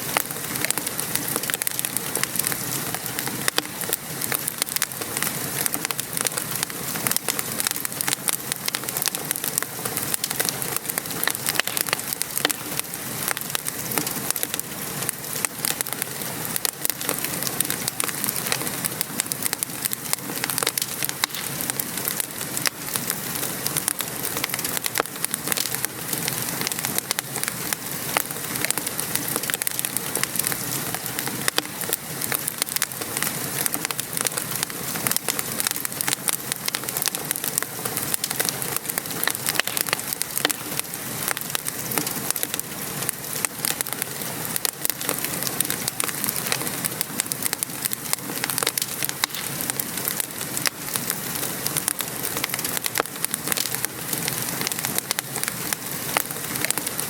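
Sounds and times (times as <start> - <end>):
rain patter: 0.0 - 57.0
wood fire crackling: 0.0 - 57.0.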